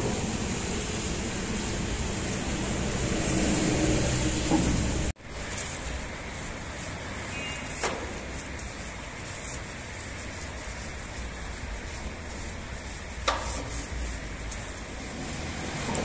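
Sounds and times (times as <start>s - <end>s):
brush scrubbing a tank: 0.0s - 16.0s.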